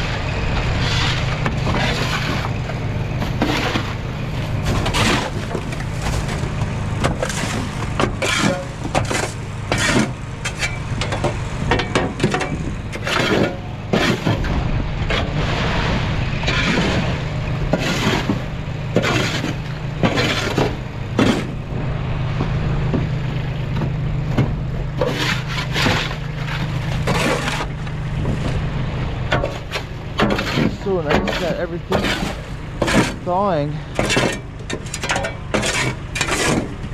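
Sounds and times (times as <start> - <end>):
mower engine idling: 0.0 - 36.9
shovel scraping frozen debris: 0.8 - 21.7, 25.0 - 28.6, 29.3 - 36.9.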